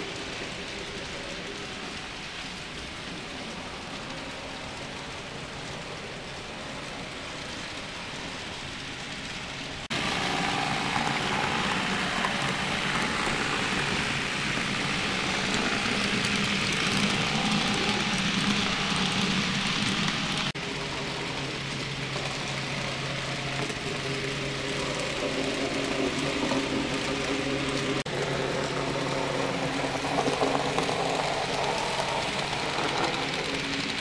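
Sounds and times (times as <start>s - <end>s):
model train wheels rattling: 0.0s - 20.6s, 21.3s - 34.0s
low motor hum: 0.0s - 34.0s.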